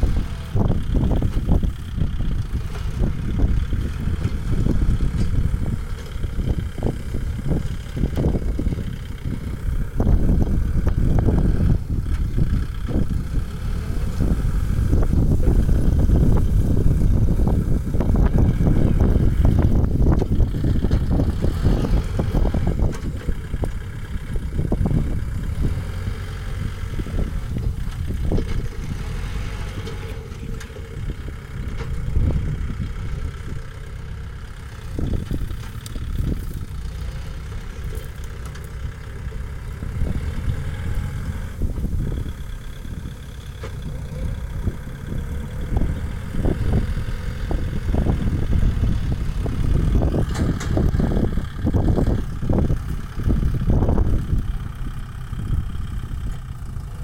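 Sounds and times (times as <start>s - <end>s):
engine knocks and clatter: 0.0s - 57.0s
tractor diesel engine running: 0.0s - 57.0s.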